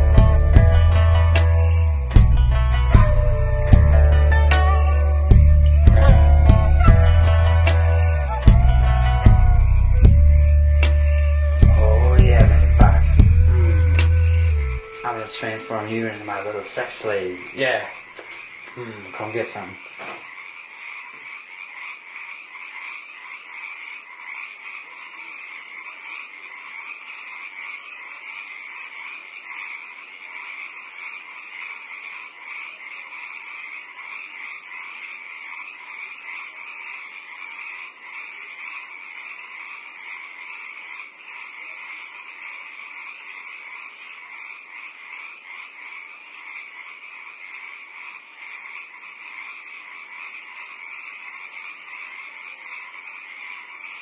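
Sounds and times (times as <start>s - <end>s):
animal chorus trilling: 0.0s - 54.0s.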